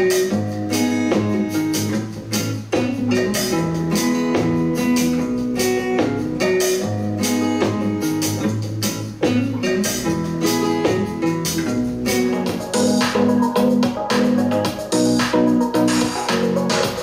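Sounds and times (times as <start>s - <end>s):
guitar music with drums: 0.0s - 17.0s.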